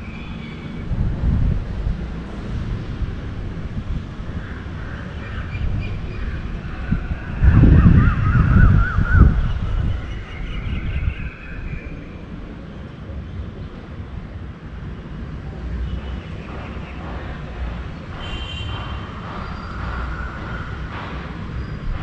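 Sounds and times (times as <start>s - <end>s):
wind buffeting microphone: 0.0s - 14.9s, 15.5s - 22.0s
city road traffic rumble: 0.0s - 22.0s.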